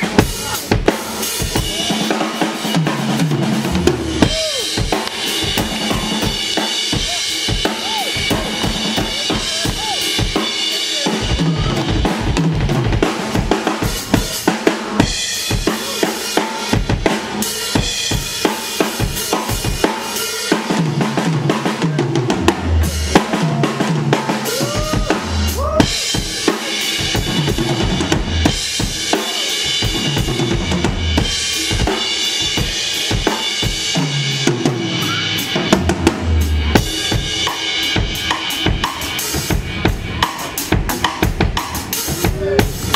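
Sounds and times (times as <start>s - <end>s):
blues band playing: 0.0s - 42.9s
drum kit beat: 0.0s - 42.9s.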